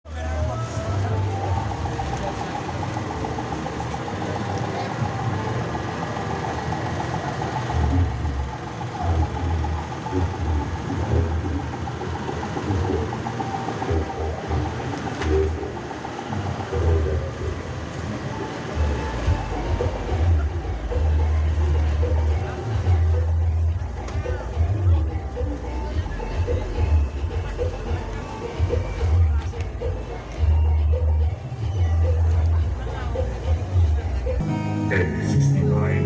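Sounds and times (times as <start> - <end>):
loud bass-heavy music: 0.0 - 36.0.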